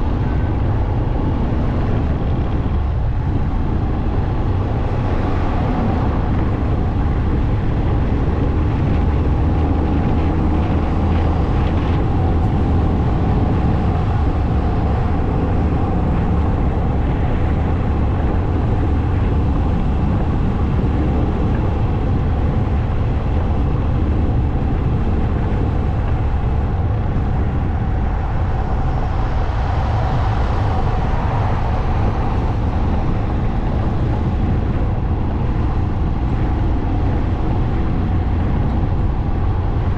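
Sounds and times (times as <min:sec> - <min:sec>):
motorcycle engine and road rumble: 0:00.0 - 0:39.9.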